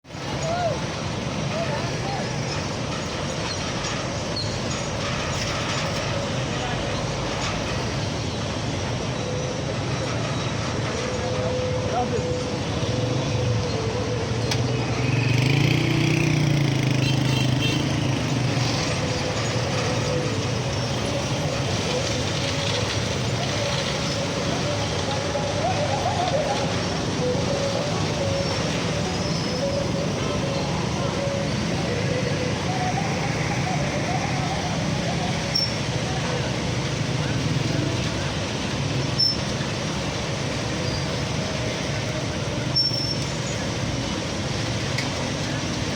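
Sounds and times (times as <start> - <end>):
diesel engine running: 0.1 - 45.9.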